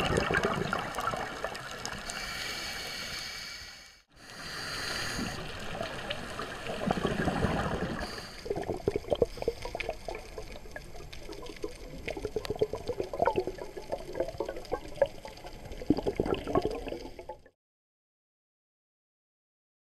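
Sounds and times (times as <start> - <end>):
underwater bubbling and gurgling: 0.0 - 3.4, 4.2 - 17.5.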